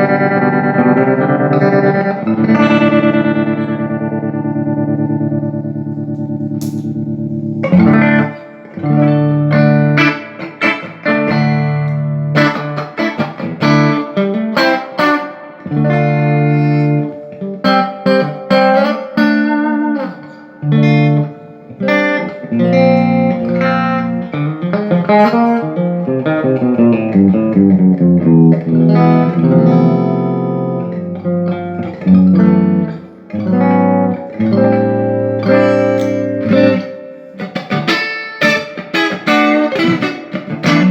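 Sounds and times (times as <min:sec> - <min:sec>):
electric guitar chords and notes: 0:00.0 - 0:40.9.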